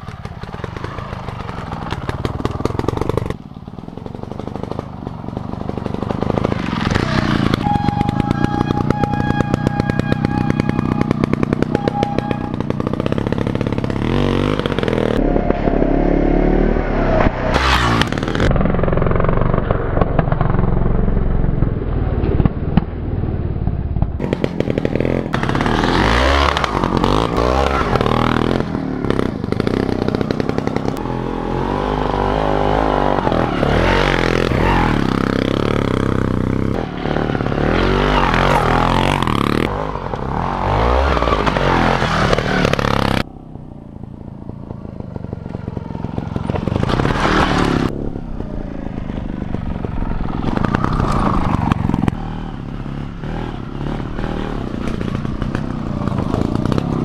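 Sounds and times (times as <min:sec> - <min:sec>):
two-stroke motorcycle engine revving: 0:00.0 - 0:19.7, 0:24.0 - 0:57.0.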